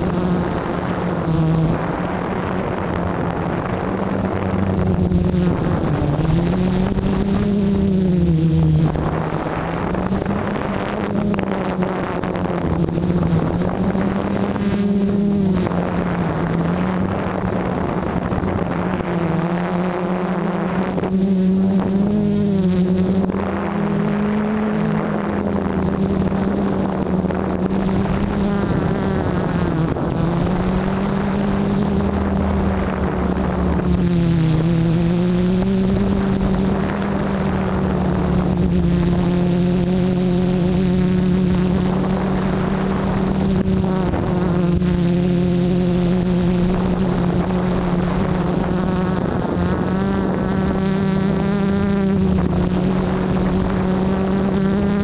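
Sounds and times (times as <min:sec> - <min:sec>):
quadcopter propellers buzzing: 0:00.0 - 0:55.0.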